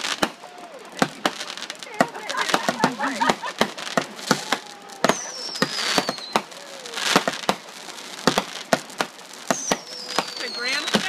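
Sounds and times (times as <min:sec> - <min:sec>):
fireworks bangs: 0:00.0 - 0:11.0
fireworks crackling: 0:00.0 - 0:11.0
fireworks falling whistle: 0:00.0 - 0:11.0.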